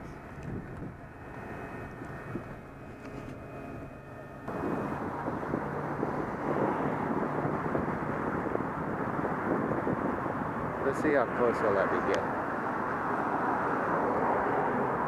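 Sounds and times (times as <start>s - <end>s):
car road noise and engine hum: 0.0s - 15.0s.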